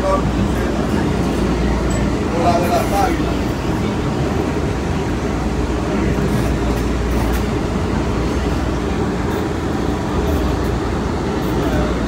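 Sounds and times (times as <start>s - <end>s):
light-rail car rumbling: 0.0s - 12.0s.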